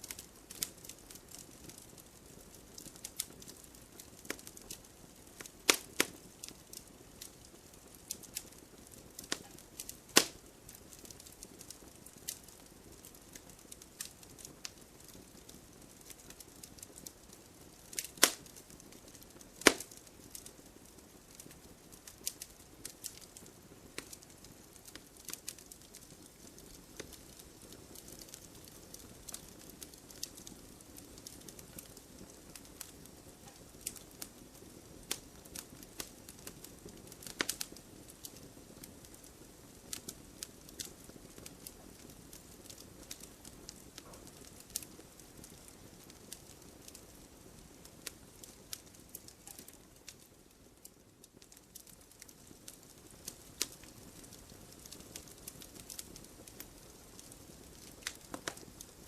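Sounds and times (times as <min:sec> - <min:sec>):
soft fire hiss: 0:00.0 - 0:59.0
wood fire crackling: 0:00.0 - 0:59.0.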